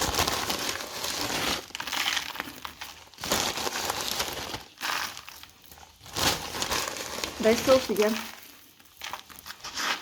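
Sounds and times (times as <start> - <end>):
crinkling and rustling: 0.0 - 10.0.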